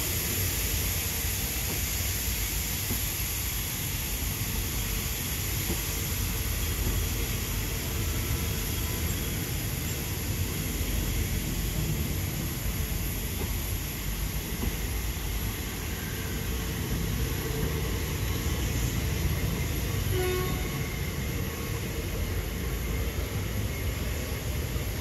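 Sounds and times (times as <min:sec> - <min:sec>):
train rumbling on track: 0:00.0 - 0:25.0.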